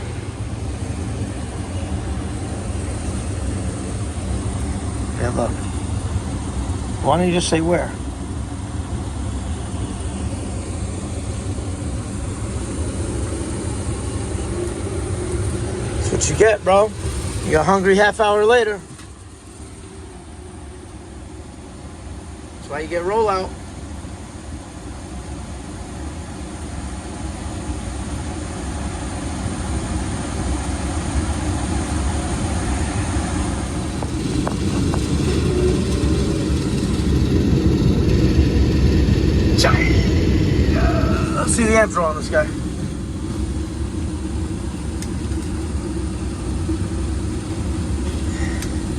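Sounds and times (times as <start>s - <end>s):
gas furnace whooshing roar: 0.0s - 48.9s
low mechanical drone: 0.0s - 48.9s.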